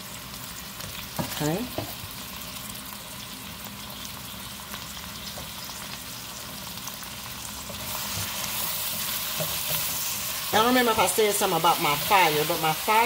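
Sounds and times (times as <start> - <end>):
onions and beef sizzling in pan: 0.0 - 13.0.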